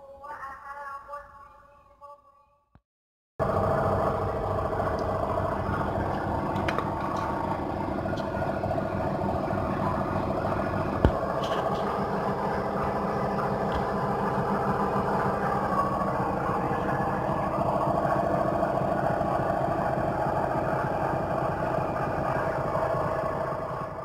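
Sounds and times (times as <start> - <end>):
engine idling: 3.4 - 24.0.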